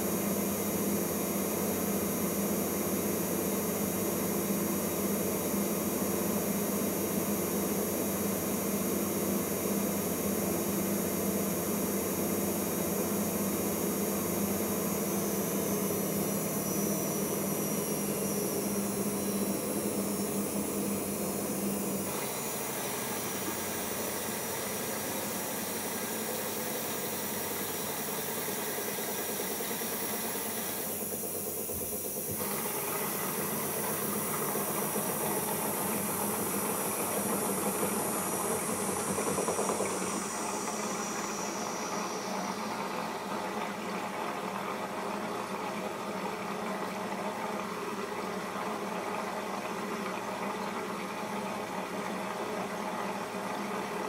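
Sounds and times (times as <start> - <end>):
washing machine water running in: 0.0 - 54.0.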